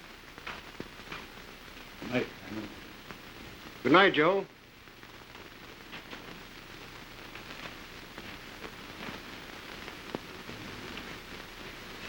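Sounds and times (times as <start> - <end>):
crackles and clicks: 0.0 - 12.0
film soundtrack hiss: 0.0 - 12.0.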